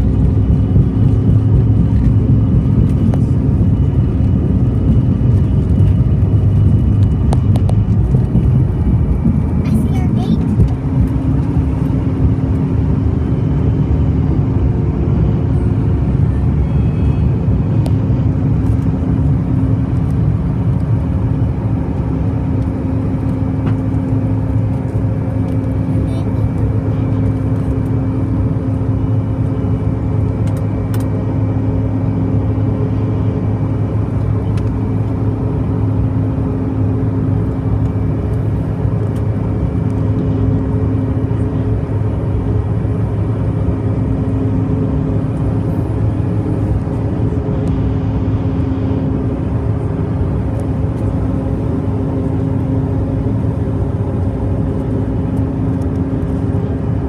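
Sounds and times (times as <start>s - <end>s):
jet cabin engine drone: 0.0s - 57.0s.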